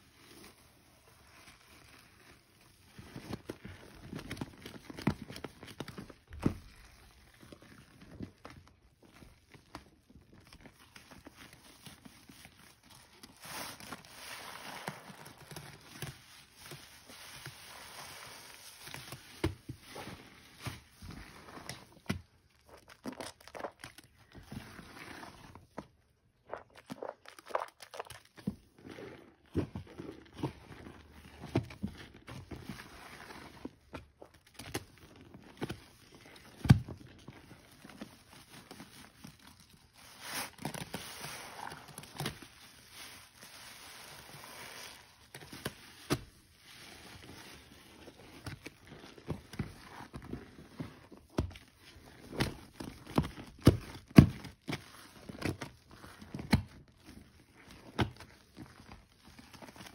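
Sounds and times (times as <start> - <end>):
soapy sponges squelching: 0.0 - 59.9.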